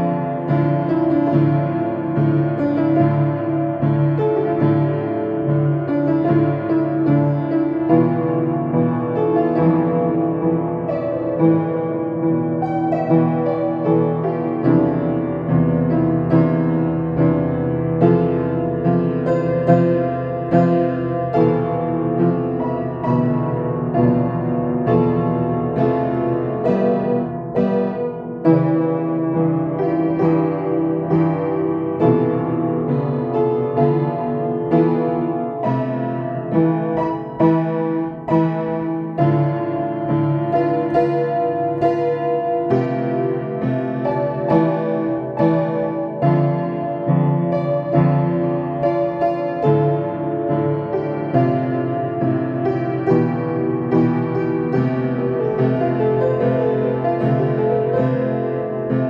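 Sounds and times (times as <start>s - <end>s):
slow solo piano piece: 0.0s - 59.0s.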